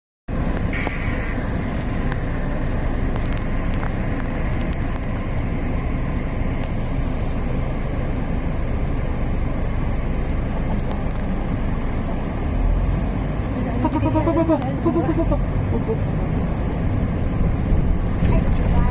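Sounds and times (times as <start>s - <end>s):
car engine: 0.3s - 18.9s
road noise: 0.3s - 18.9s.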